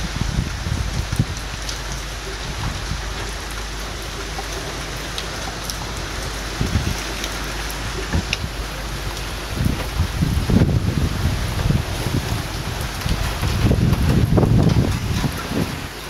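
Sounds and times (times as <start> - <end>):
heavy rain pouring: 0.0 - 16.0
wind buffeting microphone: 0.0 - 16.0.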